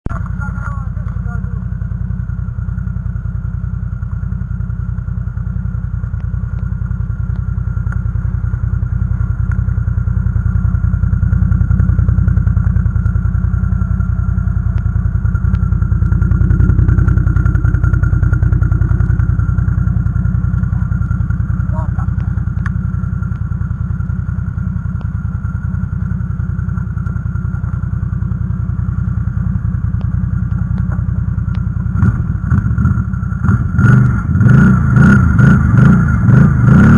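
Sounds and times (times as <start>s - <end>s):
atv engine running: 0.0s - 36.9s.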